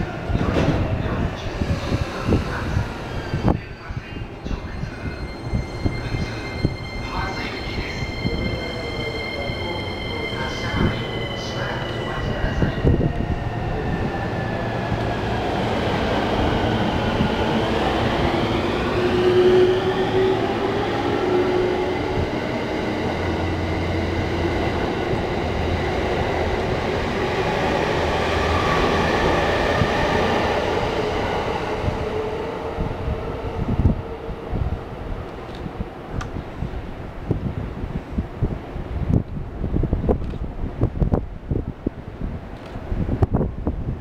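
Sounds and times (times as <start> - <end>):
train wheel and rail noise: 0.0 - 44.0.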